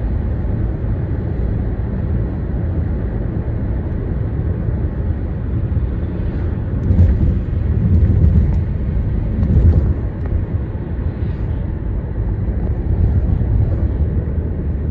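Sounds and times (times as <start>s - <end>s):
vehicles crossing bridge rumble: 0.0s - 14.9s.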